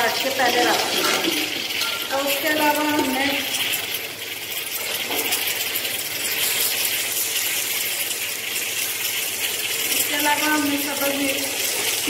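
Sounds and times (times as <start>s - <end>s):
onions and tomatoes sizzling in oil: 0.0s - 12.0s.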